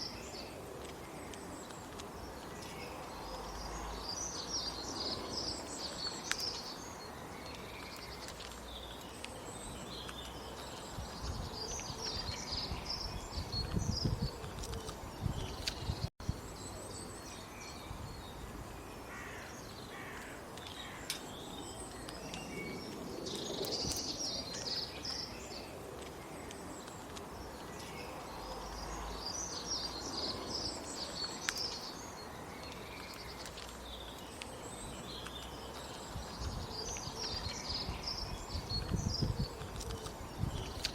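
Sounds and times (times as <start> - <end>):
outdoor background noise: 0.0 - 40.9
small birds chirping: 0.0 - 40.9.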